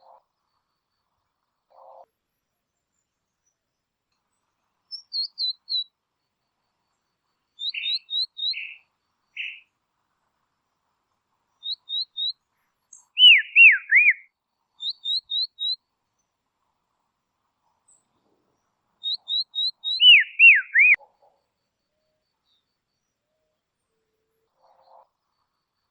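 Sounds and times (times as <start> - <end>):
songbird chirping: 0.0 - 25.9.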